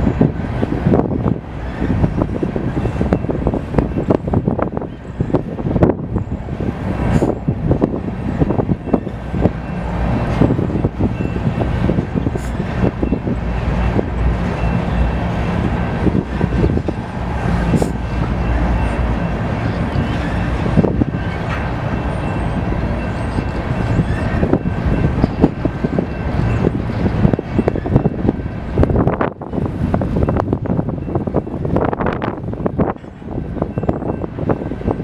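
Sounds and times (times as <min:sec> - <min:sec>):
train clanks and knocks: 0:00.0 - 0:35.0
train wheels rumbling on rail: 0:00.0 - 0:35.0.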